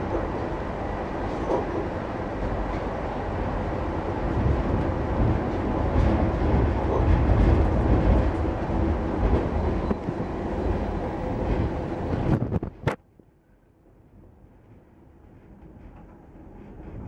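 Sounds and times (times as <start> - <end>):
train wheels rumbling on rails: 0.0 - 13.2, 13.8 - 17.0.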